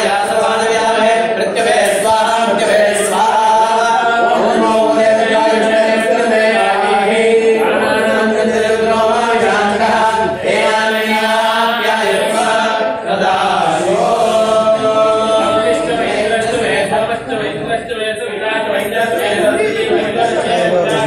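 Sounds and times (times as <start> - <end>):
voices chanting together: 0.0 - 21.0.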